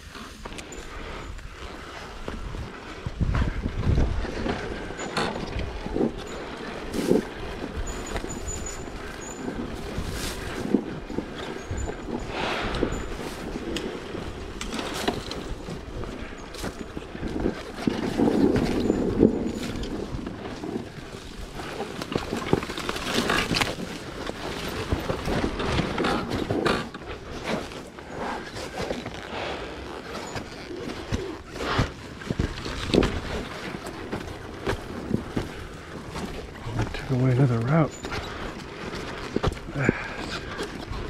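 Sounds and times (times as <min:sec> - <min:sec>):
dirt bike riding: 0:00.0 - 0:41.0
knocks rattles and scrapes: 0:00.0 - 0:41.0.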